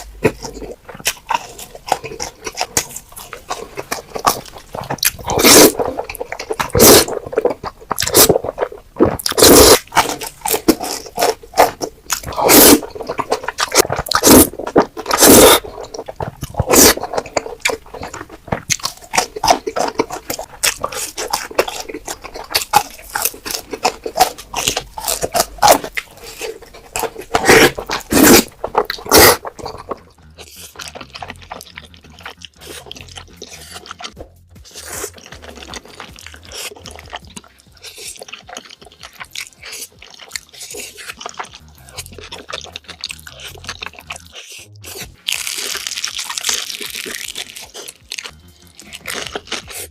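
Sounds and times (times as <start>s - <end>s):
slurping and chewing noodles: 0.0s - 49.9s.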